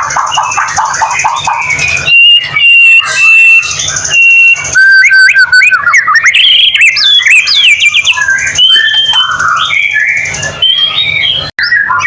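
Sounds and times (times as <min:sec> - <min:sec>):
songbird singing whistles and trills: 0:00.0 - 0:12.0.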